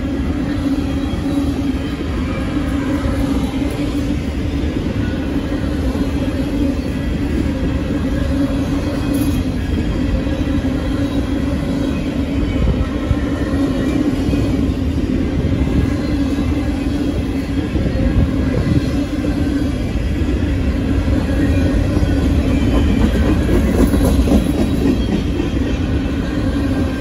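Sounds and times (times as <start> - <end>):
steel wheels rumbling on rails: 0.0 - 27.0.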